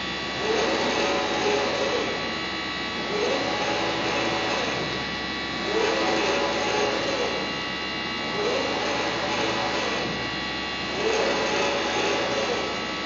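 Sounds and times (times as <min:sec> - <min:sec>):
printer machine hum: 0:00.0 - 0:13.0.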